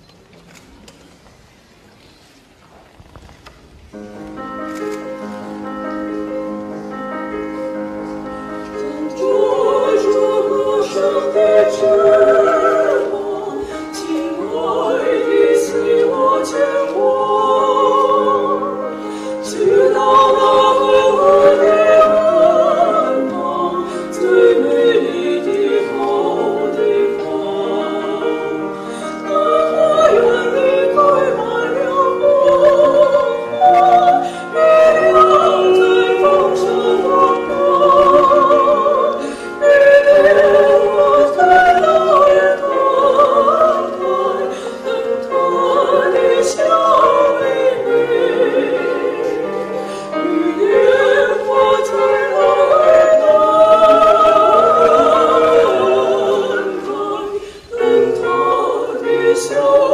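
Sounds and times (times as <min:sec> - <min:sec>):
sustained accompaniment: 0:03.9 - 0:59.9
female vocal trio singing: 0:07.2 - 0:59.9.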